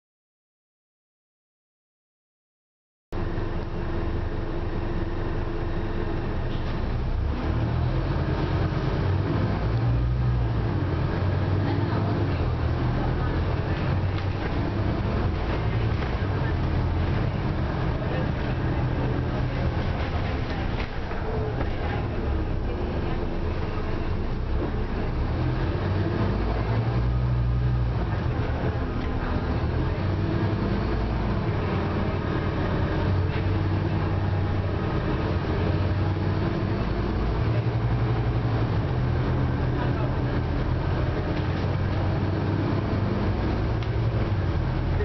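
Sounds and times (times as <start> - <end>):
bus engine rumble: 3.2 - 45.0
steady engine whine: 3.2 - 45.0
road and body noise: 6.4 - 45.0.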